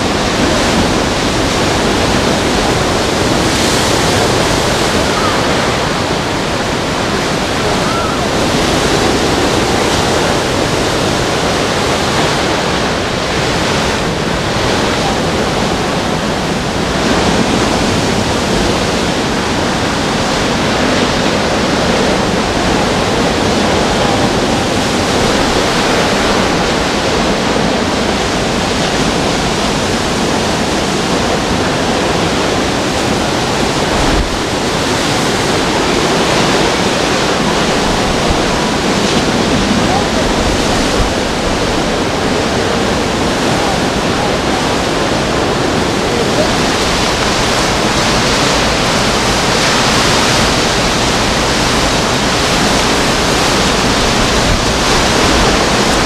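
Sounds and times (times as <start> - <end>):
strong wind rushing: 0.0 - 56.0.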